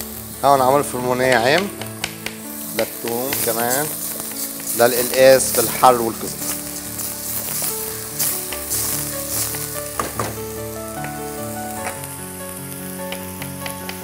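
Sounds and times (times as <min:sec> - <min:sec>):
food sizzling in a pan: 0:00.0 - 0:14.0
soft background music: 0:00.0 - 0:14.0.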